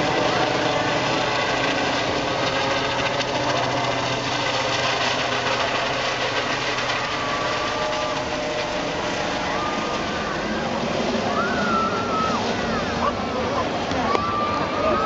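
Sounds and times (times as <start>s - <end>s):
helicopter rotor beat: 0.0s - 15.0s
turbine whine: 0.0s - 15.0s.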